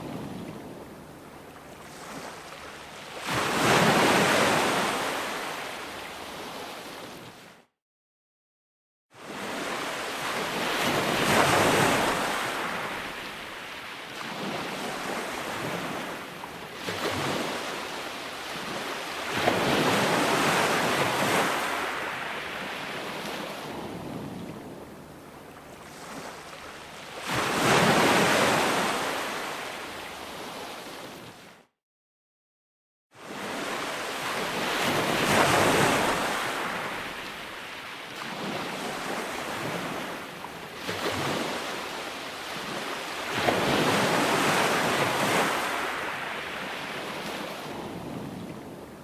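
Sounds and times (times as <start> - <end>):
ocean waves breaking: 0.0 - 7.5, 9.2 - 31.5, 33.2 - 49.0.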